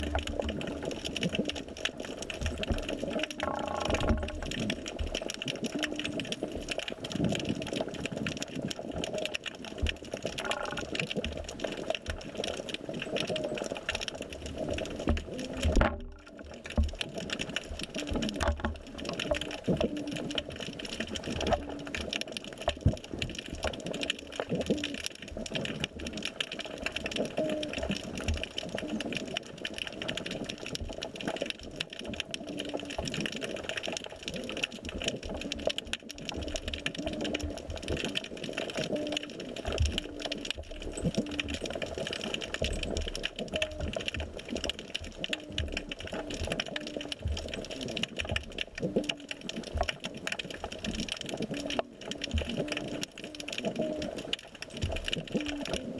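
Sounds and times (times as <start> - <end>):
underwater crackling clicks: 0.0 - 55.9.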